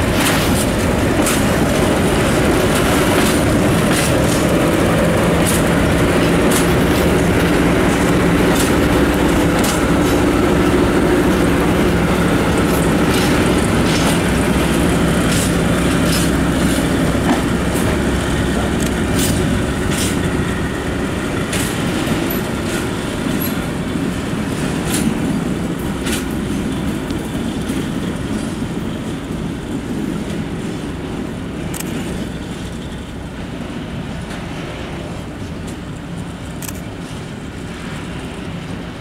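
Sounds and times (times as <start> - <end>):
diesel locomotive engine: 0.0 - 39.0
wheels clicking on track: 0.0 - 39.0.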